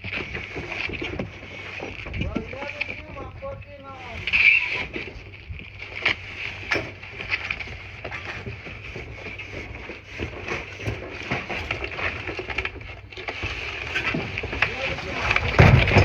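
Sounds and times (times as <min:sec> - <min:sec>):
cardboard and styrofoam packing handled: 0:00.0 - 0:16.0
steady background hum: 0:00.0 - 0:16.0.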